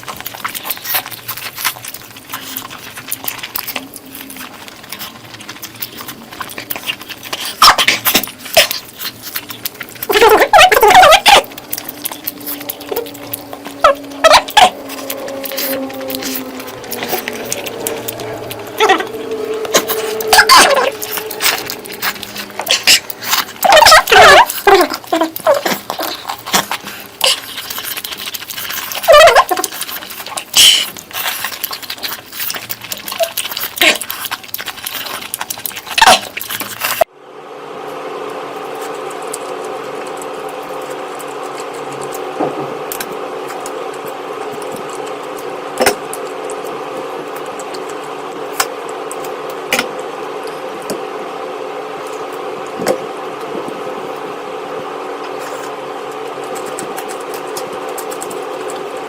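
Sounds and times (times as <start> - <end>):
wet chewing and slurping: 0.0 - 37.1, 38.6 - 51.0, 55.2 - 59.0
steady hum: 0.0 - 59.0.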